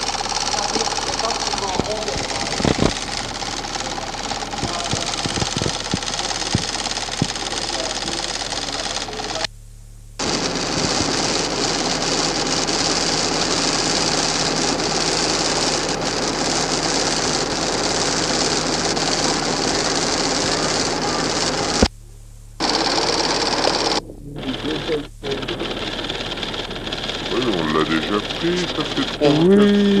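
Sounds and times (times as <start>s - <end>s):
rapid mechanical whirring: 0.0s - 9.5s, 10.2s - 21.9s, 22.6s - 30.0s.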